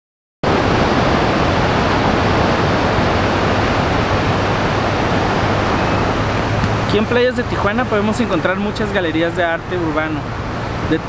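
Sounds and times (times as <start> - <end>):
ocean surf breaking: 0.4 - 11.0.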